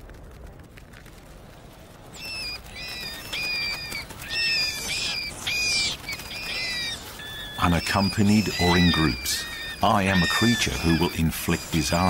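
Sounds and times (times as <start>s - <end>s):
rats squeaking: 2.1s - 12.0s.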